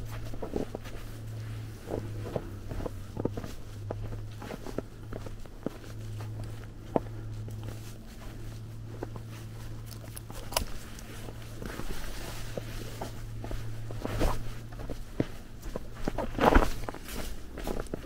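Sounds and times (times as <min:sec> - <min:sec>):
footsteps in snow: 0:00.0 - 0:18.0
steady low hum: 0:00.0 - 0:18.0.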